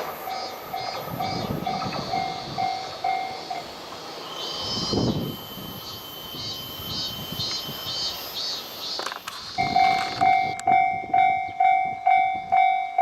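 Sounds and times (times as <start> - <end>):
level crossing warning bell: 0.0 - 8.2, 9.6 - 13.0
train wheels on rails: 0.0 - 13.0.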